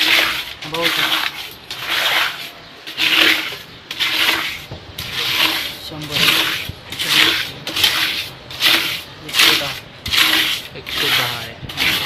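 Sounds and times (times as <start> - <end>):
rhythmic rasping scrape: 0.0 - 12.0.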